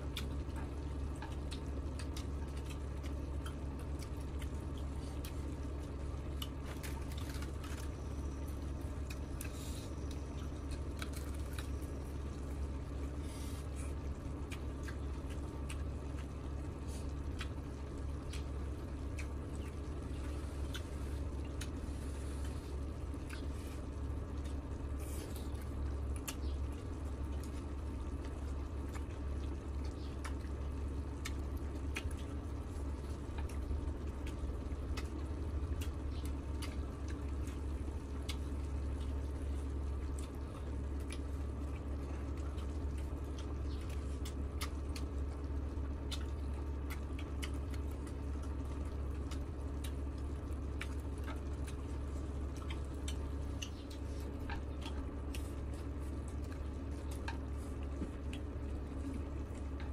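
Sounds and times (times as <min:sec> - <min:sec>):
low hum: 0:00.0 - 0:59.9
wet chewing: 0:00.0 - 0:59.9.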